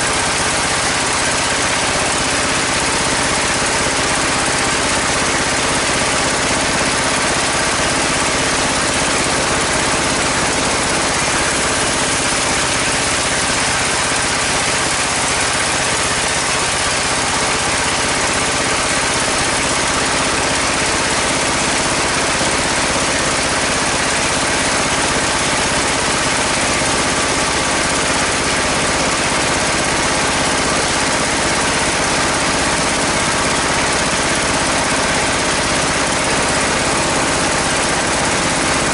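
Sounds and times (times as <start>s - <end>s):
band saw machinery running: 0.0s - 38.9s.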